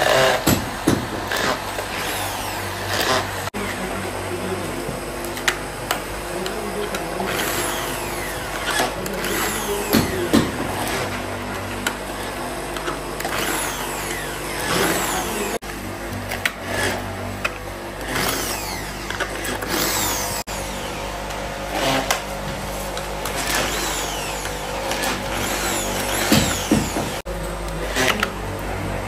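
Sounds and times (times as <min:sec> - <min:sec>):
electric motor hum: 0:00.0 - 0:29.0.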